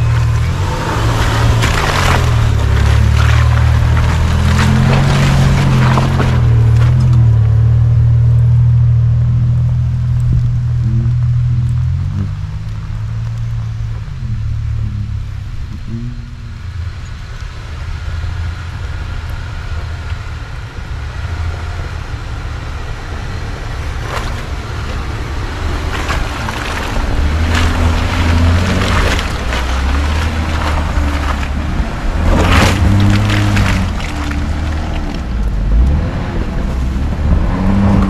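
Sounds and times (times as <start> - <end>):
tyres through snow and slush: 0.0 - 15.9, 16.7 - 38.0
pickup truck engine running: 0.0 - 38.0.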